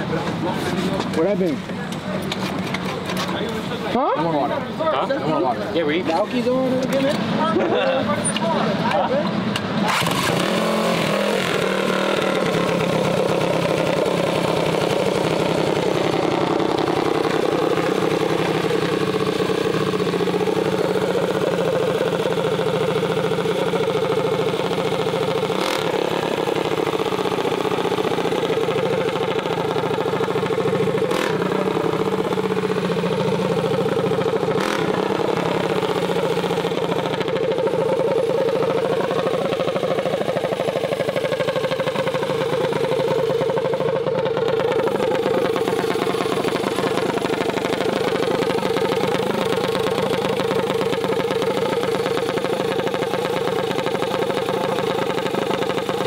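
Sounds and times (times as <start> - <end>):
small engine running: 9.8 - 56.0.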